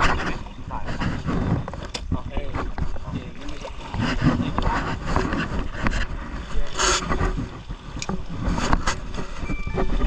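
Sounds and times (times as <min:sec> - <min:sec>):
boat engine rumbling: 0:00.0 - 0:10.0.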